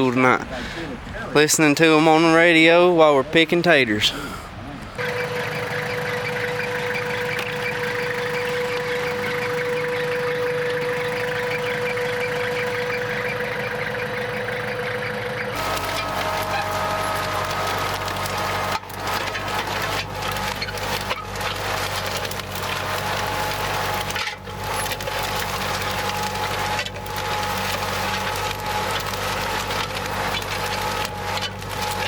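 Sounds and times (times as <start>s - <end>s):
tractor engine running: 0.0s - 32.0s
crackling rustling noise: 5.0s - 32.0s.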